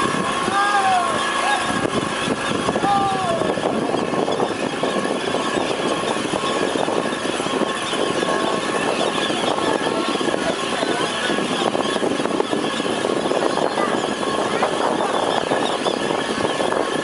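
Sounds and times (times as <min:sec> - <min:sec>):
motorboat engine running: 0:00.0 - 0:17.0
wind: 0:00.0 - 0:17.0.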